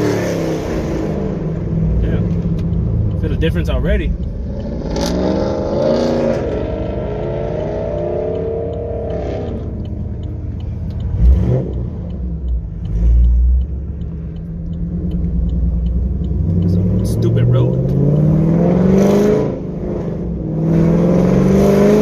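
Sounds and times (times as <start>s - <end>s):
car engine and exhaust: 0.0s - 22.0s.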